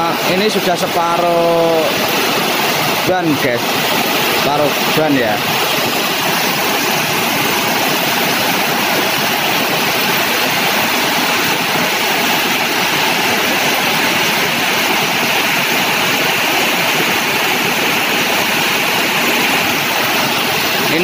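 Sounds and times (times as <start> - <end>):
heavy rain on flooded road: 0.0 - 21.0.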